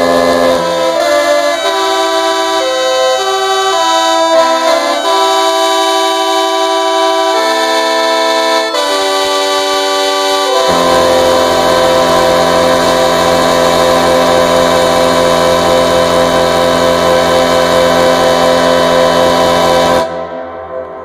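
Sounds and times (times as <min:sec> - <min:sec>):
air horn chord: 0:00.0 - 0:21.0.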